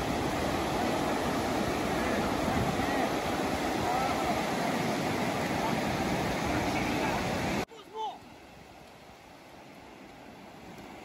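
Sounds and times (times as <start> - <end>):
ocean surf washing up a beach: 0.0 - 11.0.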